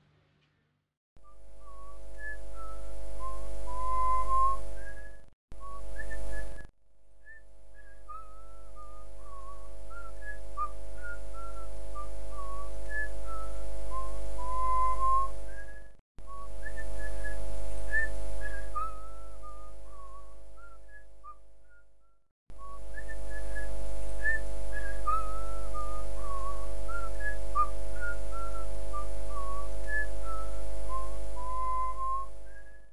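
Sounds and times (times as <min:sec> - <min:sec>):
person whistling a tune: 0:01.2 - 0:21.9, 0:22.6 - 0:32.9.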